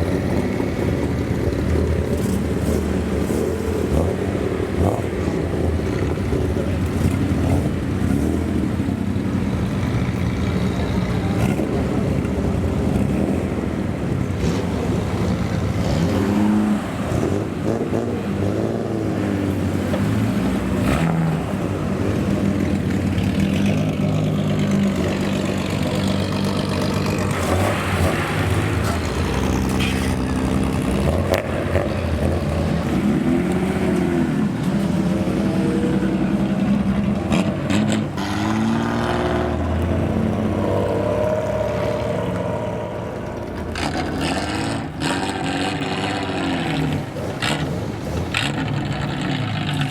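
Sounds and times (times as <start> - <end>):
car engines revving: 0.0 - 49.9.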